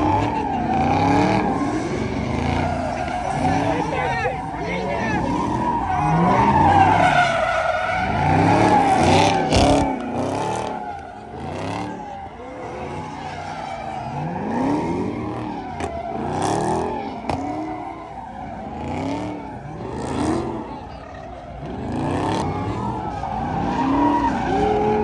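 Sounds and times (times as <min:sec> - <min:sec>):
car engine revving: 0:00.0 - 0:25.0
tyres squealing and skidding: 0:00.0 - 0:25.0.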